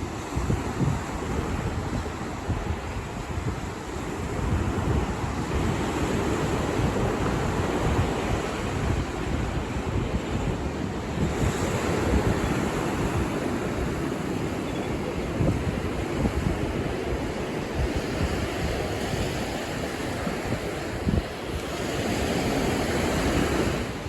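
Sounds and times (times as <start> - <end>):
ocean surf on beach: 0.0 - 24.0
wind buffeting microphone: 0.0 - 24.0.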